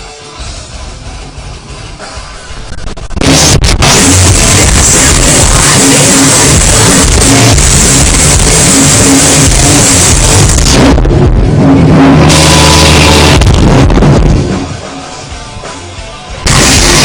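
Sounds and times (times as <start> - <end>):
drums: 0.0 - 17.0
heavy distorted guitars: 0.0 - 17.0.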